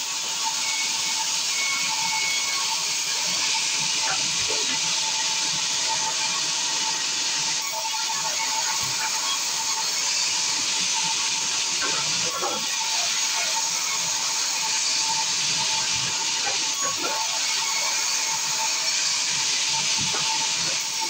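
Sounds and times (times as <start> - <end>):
band saw cutting wood: 0.0 - 21.0.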